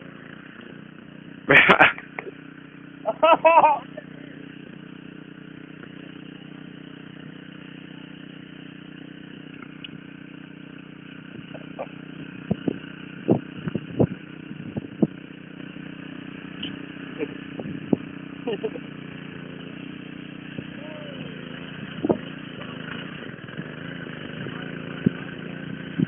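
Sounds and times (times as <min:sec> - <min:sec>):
rototiller engine running: 0:00.0 - 0:26.0.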